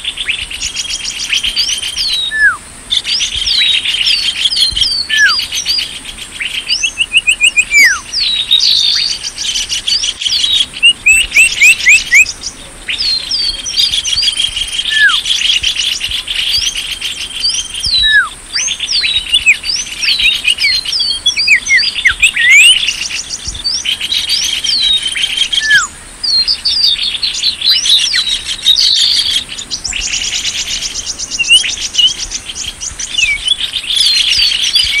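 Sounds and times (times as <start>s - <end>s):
songbirds trilling and whistling: 0.0s - 35.0s.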